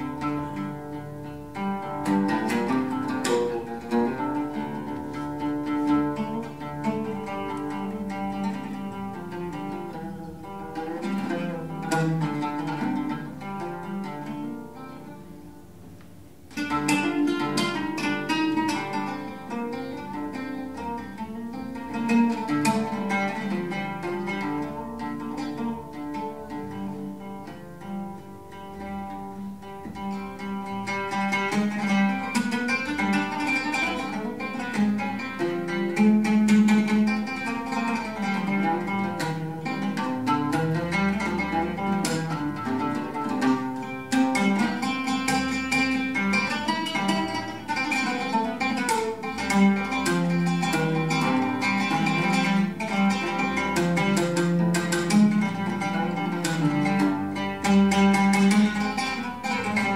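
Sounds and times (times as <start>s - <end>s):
oud plucked notes: 0.0s - 59.9s.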